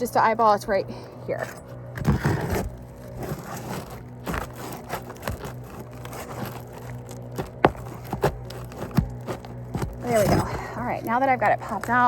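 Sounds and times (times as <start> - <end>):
tool scraping under shingles: 1.1 - 12.0.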